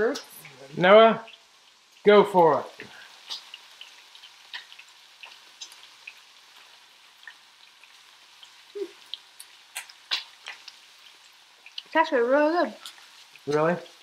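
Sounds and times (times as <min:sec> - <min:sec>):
food frying in oil: 0:00.0 - 0:14.0.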